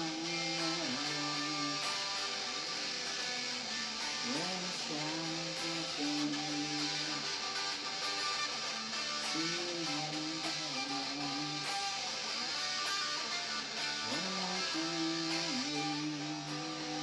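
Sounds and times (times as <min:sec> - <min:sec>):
sliding guitar melody: 0:00.0 - 0:17.0
strummed guitar: 0:00.0 - 0:17.0.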